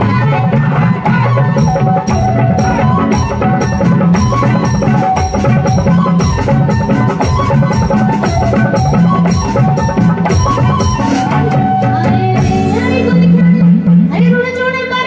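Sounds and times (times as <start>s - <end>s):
hand drums beating: 0.0s - 14.4s
folk melody line: 0.0s - 15.0s.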